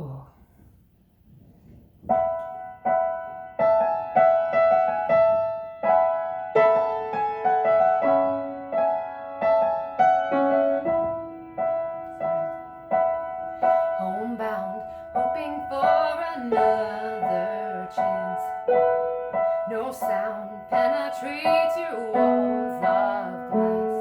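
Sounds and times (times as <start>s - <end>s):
piano chords: 2.0s - 24.0s.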